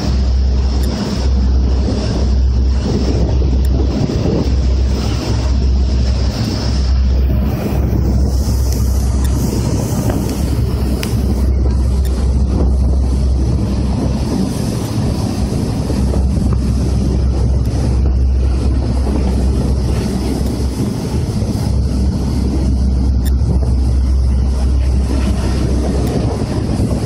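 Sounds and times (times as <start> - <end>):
deep engine rumble: 0.0 - 27.0
ferry wake churning: 0.0 - 27.0
wind buffeting microphone: 0.0 - 27.0.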